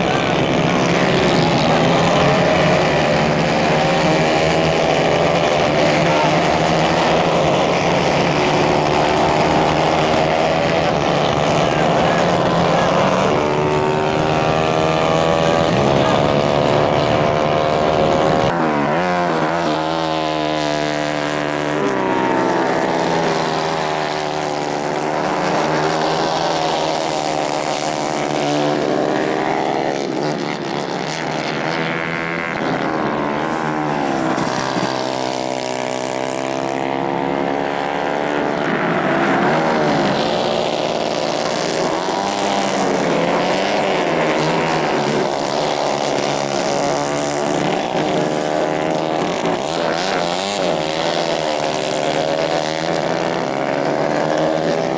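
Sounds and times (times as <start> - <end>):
racing kart engines revving: 0.0 - 54.9.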